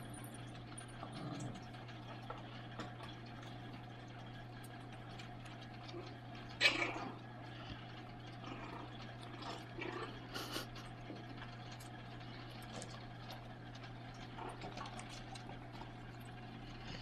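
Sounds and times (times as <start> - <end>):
aquarium hum: 0.0 - 17.0.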